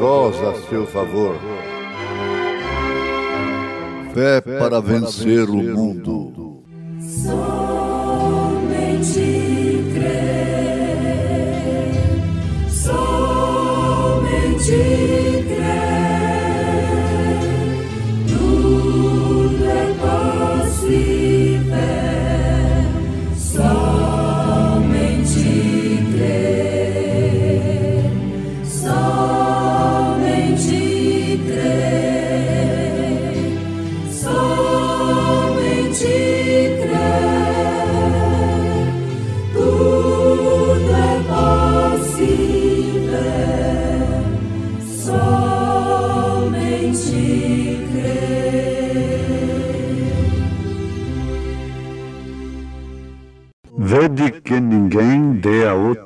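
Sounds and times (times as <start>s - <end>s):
choir singing a hymn: 6.9s - 52.4s.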